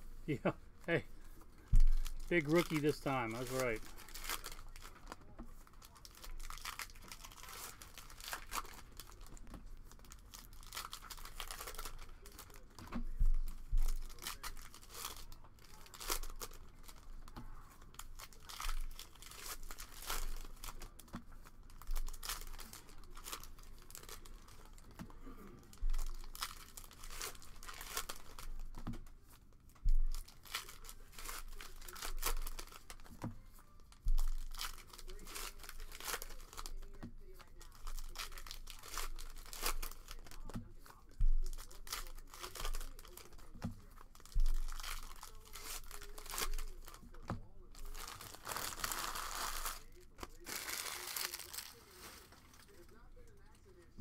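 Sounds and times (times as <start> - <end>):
foil wrappers crinkling: 0.0 - 53.9.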